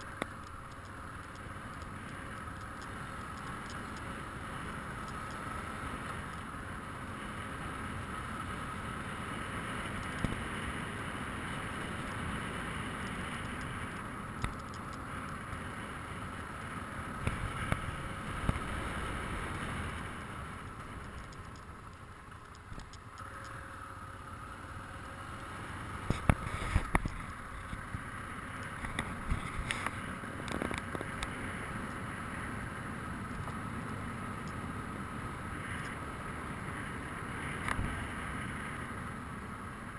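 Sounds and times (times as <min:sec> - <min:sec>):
motorcycle engine and wind rumble: 0:00.0 - 0:39.9.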